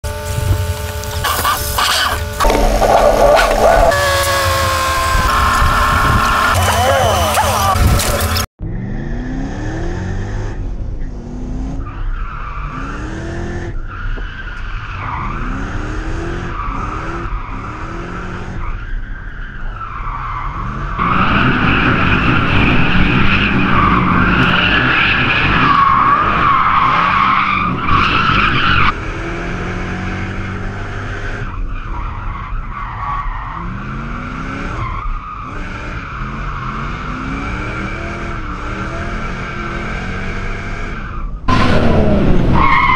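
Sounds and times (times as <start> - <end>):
car engine revving hard: 0.0 - 11.9, 12.7 - 13.8, 15.0 - 18.6, 20.5 - 31.5, 33.6 - 42.9
tyres squealing and skidding: 1.0 - 10.4, 11.8 - 29.0, 31.3 - 38.9, 40.7 - 42.9.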